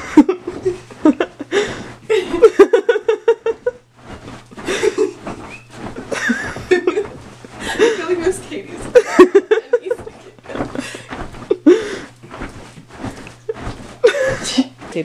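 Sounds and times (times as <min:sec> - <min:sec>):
young women laughing: 0:00.0 - 0:03.8, 0:04.6 - 0:12.1, 0:13.5 - 0:14.8.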